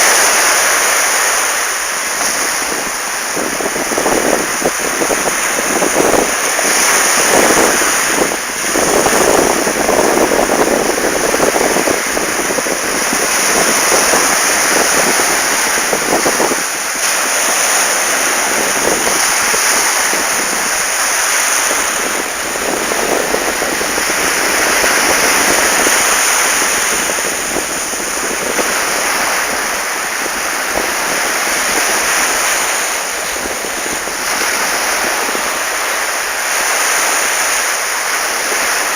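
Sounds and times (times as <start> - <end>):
sea waves surf hiss: 0.0 - 38.9
wind buffeting microphone: 1.4 - 38.9.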